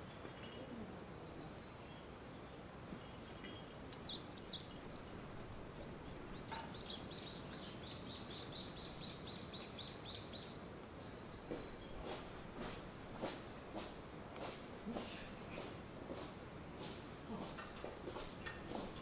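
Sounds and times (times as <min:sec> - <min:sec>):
songbirds calling: 0:00.0 - 0:14.2, 0:16.8 - 0:19.0.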